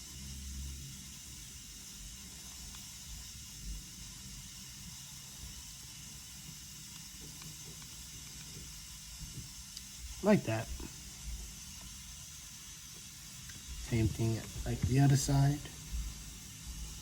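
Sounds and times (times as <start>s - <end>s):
flux sizzling under soldering iron: 0.0s - 17.0s.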